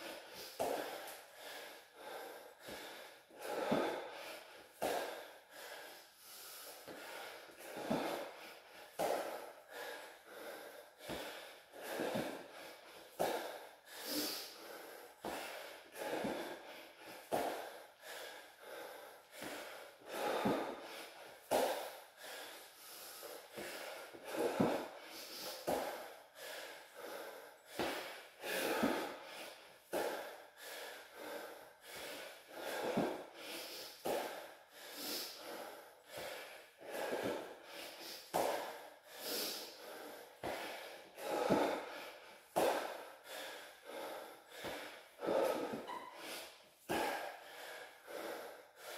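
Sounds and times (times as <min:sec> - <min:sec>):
man breathing heavily: 0:00.0 - 0:48.9.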